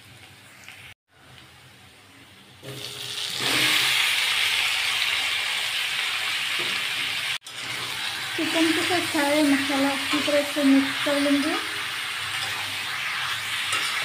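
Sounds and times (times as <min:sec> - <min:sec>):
food sizzling in hot oil: 0:00.0 - 0:01.7, 0:02.4 - 0:14.0
faint frying hiss: 0:00.0 - 0:14.0.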